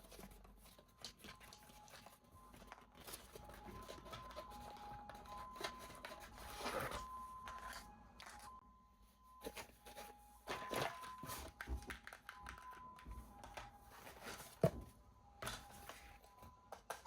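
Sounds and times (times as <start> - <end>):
packaging clicks: 0.0 - 8.6, 9.5 - 14.7
packaging rustling and crinkling: 0.0 - 8.6, 9.3 - 17.0.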